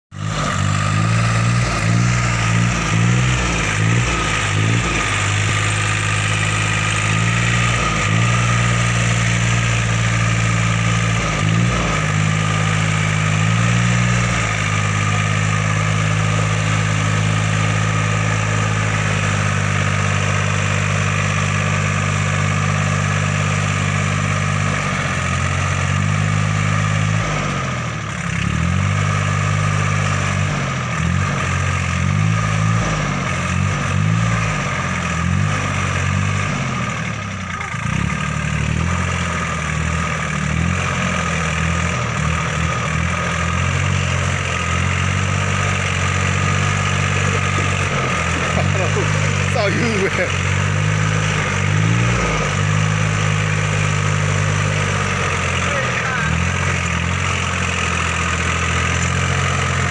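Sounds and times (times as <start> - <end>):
tractor diesel engine running: 0.1 - 59.9.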